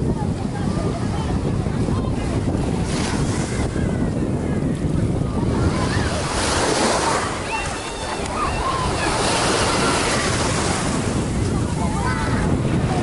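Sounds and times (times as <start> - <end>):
waves washing ashore: 0.0 - 13.0
wind buffeting microphone: 0.0 - 13.0.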